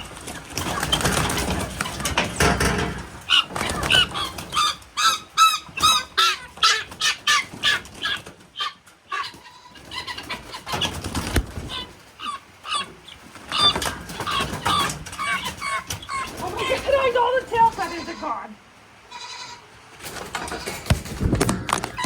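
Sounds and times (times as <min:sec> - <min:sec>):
guinea fowl calling: 0:00.0 - 0:18.4.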